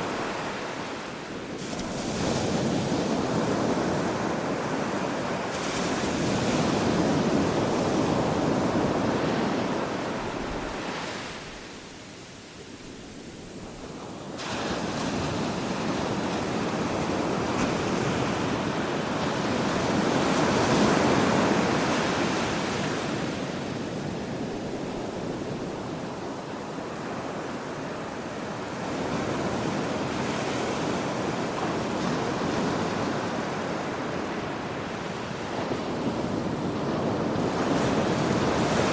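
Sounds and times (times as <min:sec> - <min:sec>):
ocean waves breaking on shore: 0:00.0 - 0:12.8, 0:13.5 - 0:38.9.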